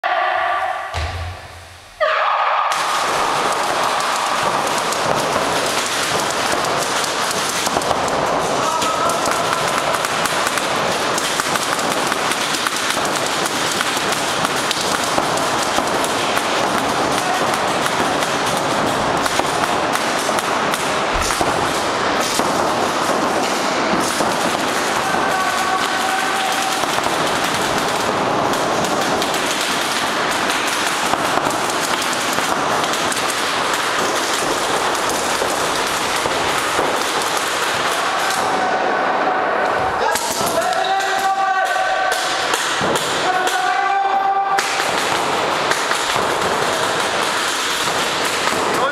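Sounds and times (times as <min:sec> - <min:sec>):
paintball markers firing rapidly: 0:02.7 - 0:38.6, 0:40.1 - 0:43.8, 0:44.5 - 0:48.9.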